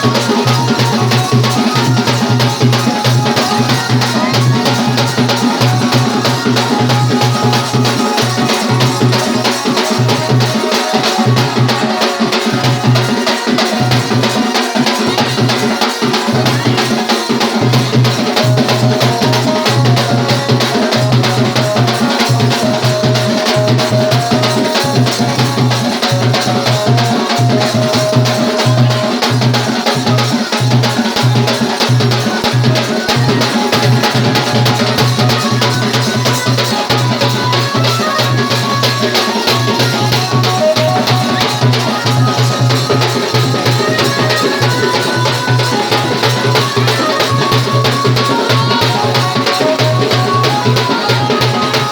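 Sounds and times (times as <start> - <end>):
drums and percussion beat: 0.0 - 51.9
held melody line: 0.0 - 51.9.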